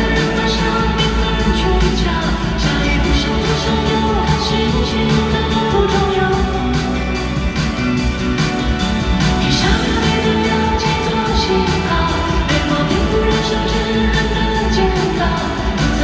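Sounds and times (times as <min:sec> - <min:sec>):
live pop band music: 0:00.0 - 0:16.0
steady drum beat: 0:00.0 - 0:16.0.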